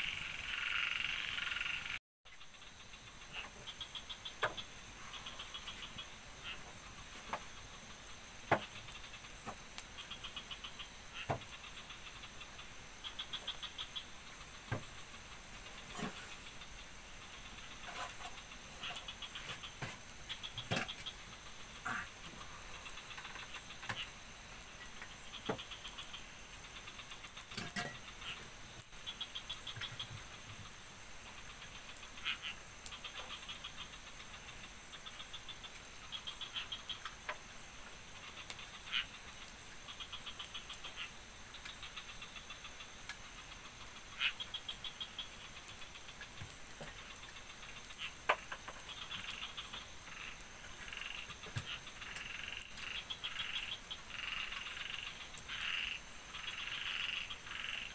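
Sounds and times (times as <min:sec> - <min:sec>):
frogs and insects trilling: 0:00.0 - 0:57.9.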